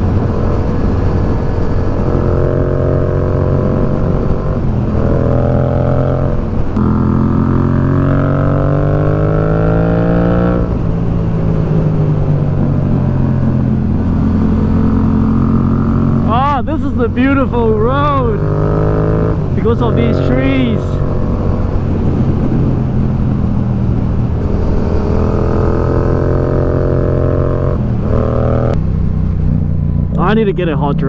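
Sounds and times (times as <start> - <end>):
low wind rumble: 0.0 - 31.0
motorcycle engine accelerating: 0.0 - 31.0.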